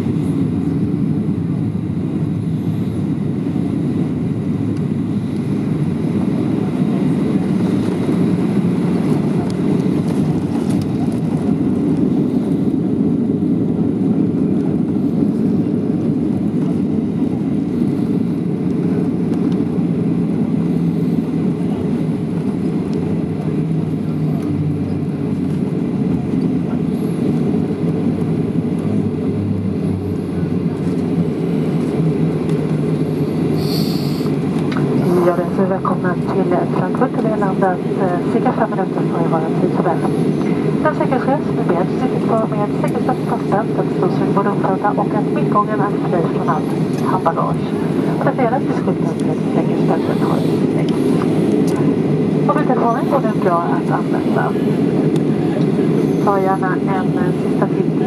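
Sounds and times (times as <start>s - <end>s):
aircraft cabin engine rumble: 0.0s - 58.0s
aircraft rolling on taxiway: 0.0s - 58.0s.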